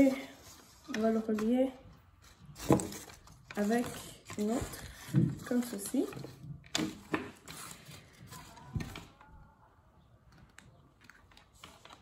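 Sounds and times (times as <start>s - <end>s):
paper rustling: 0.0s - 9.2s, 10.4s - 12.0s.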